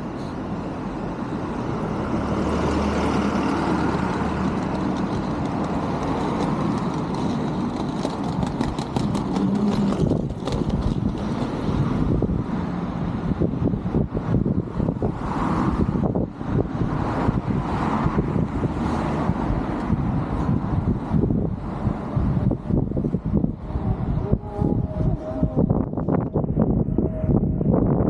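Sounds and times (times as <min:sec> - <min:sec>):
vehicle passing close by: 0:01.4 - 0:27.8
wind noise on microphone: 0:01.4 - 0:28.0.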